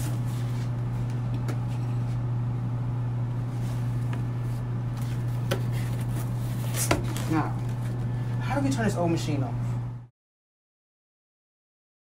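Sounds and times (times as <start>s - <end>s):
low electrical hum: 0.0s - 10.1s.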